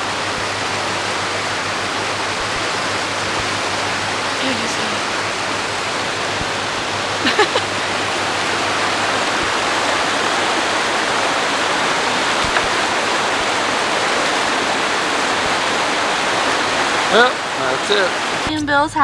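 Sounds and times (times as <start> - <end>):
fast-flowing creek water: 0.0 - 18.7.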